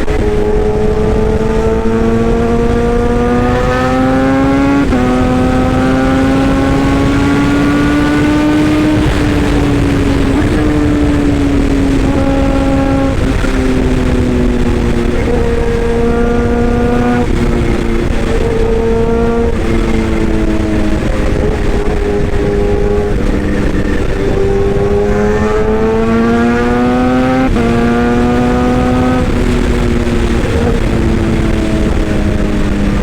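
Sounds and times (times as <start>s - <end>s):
excavator engine rumbling: 0.0s - 33.0s.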